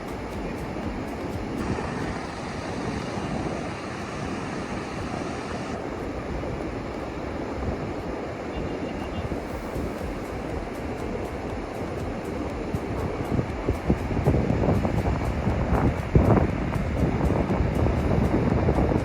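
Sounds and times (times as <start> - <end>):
ocean surf breaking on beach: 0.0 - 19.0
wind on microphone: 0.0 - 19.0.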